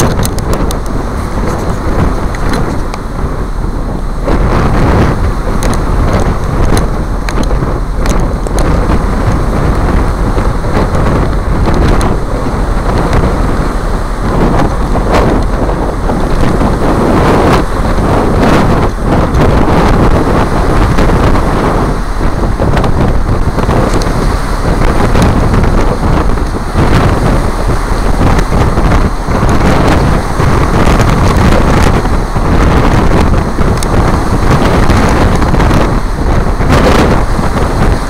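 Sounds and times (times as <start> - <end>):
motorcycle running: 0.0 - 38.0
road noise: 0.0 - 38.0
wind buffeting microphone: 0.0 - 38.0.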